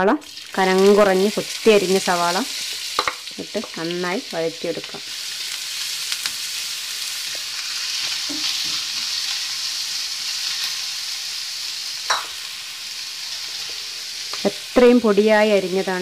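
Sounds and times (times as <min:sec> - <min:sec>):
onions sizzling in oil: 0:00.1 - 0:16.0.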